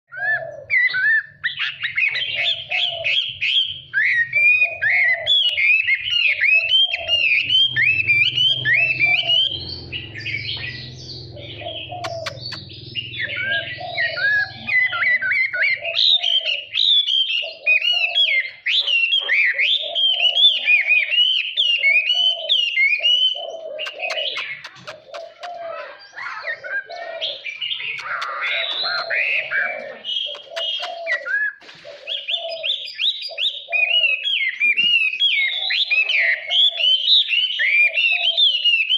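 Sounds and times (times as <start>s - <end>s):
bird singing whistled phrases: 0.1s - 38.9s.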